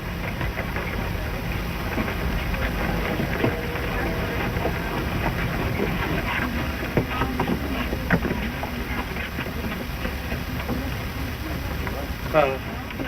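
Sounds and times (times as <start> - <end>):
low rumble: 0.0 - 12.3
film soundtrack hiss: 0.0 - 13.0.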